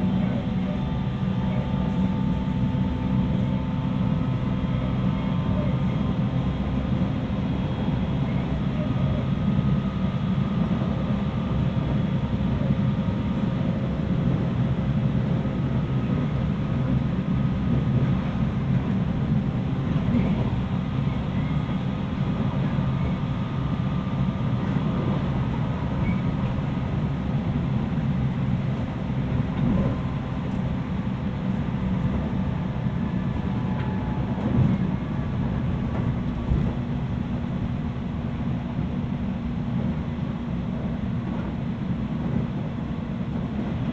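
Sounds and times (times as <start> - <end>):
train wheels rumbling on rail: 0.0 - 43.9.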